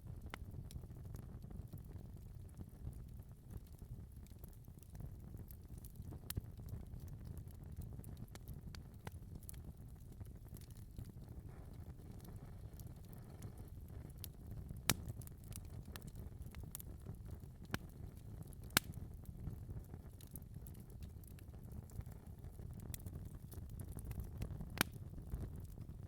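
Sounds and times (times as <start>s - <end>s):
low fire rumble: 0.0s - 26.0s
fire crackling: 0.1s - 26.0s.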